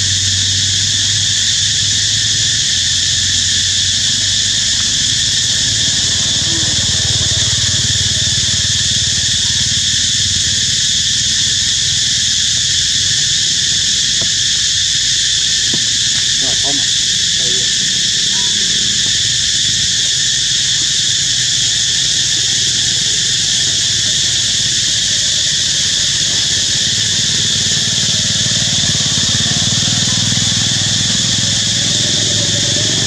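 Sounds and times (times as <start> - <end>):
insect chorus drone: 0.0 - 33.0.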